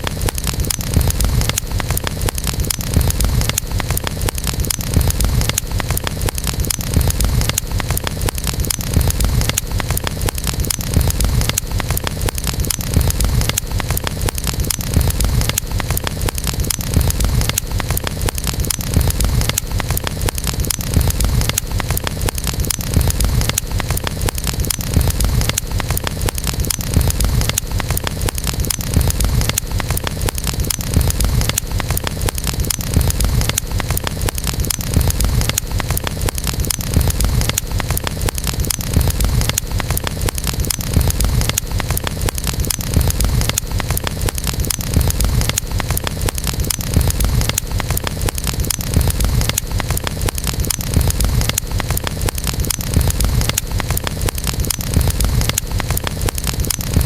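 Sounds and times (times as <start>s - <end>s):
campfire crackling: 0.0s - 57.0s
low fire rumble: 0.0s - 57.0s.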